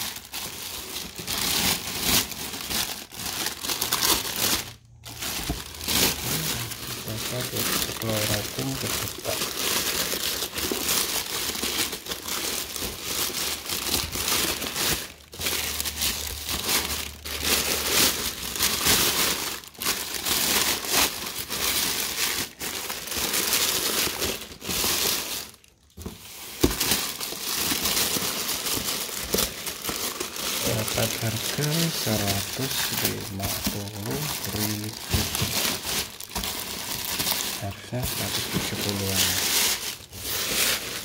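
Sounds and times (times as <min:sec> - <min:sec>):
plastic bag crinkling: 0:00.0 - 0:41.0.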